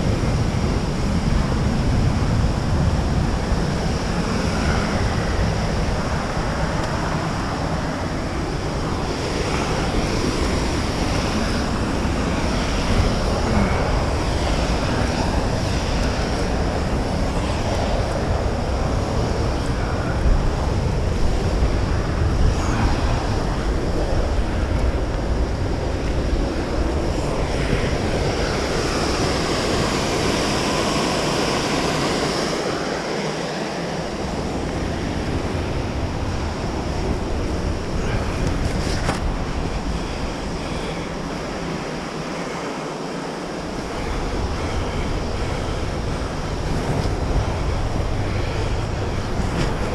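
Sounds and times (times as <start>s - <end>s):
falling water roar: 0.0s - 49.9s
wind buffeting microphone: 0.0s - 49.9s.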